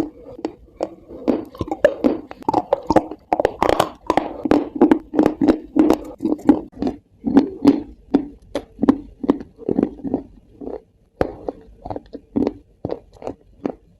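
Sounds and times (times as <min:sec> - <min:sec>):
person chewing crunchy food: 0:00.0 - 0:13.9.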